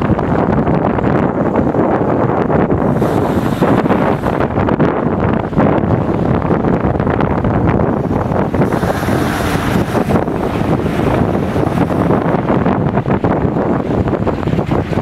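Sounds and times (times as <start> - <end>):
car engine running loudly: 0.0 - 15.0
wind buffeting microphone: 0.0 - 15.0.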